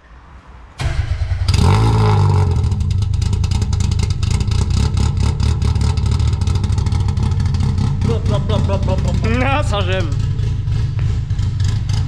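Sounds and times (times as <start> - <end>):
car engine running loud: 0.8 - 12.0.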